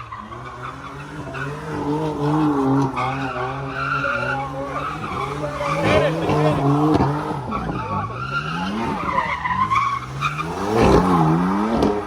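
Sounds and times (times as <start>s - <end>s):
car engine running: 0.0s - 12.0s
tires squealing: 0.0s - 12.0s.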